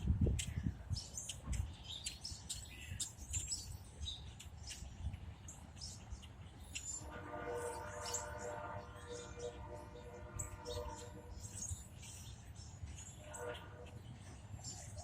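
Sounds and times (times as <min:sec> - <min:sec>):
small birds chirping: 0:00.2 - 0:07.0, 0:07.6 - 0:15.0.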